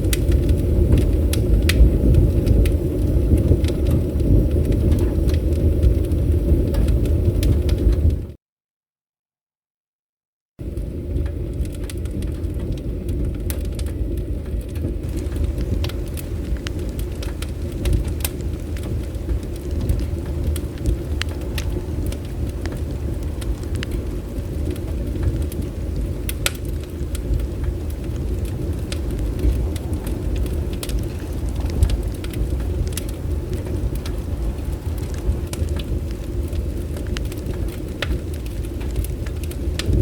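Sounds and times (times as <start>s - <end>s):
bonfire crackling and popping: 0.0s - 8.4s, 10.6s - 40.0s
fire low rumble: 0.0s - 8.4s, 10.6s - 40.0s.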